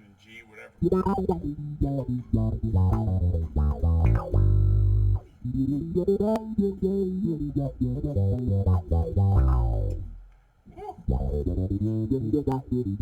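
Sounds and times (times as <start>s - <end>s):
electric bass with wah filter: 0.8s - 10.3s, 11.1s - 13.0s.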